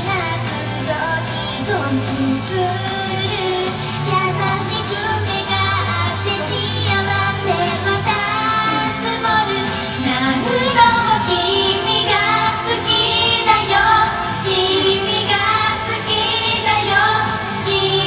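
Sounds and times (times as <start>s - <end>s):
pop backing track: 0.0s - 18.0s
young female voices singing: 0.0s - 18.0s.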